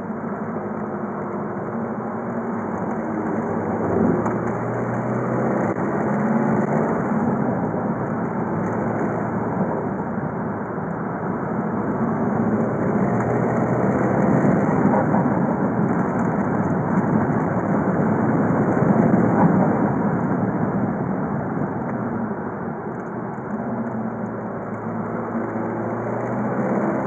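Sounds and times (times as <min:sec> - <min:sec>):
diesel car engine running: 0:00.0 - 0:22.4
road noise: 0:00.0 - 0:27.0.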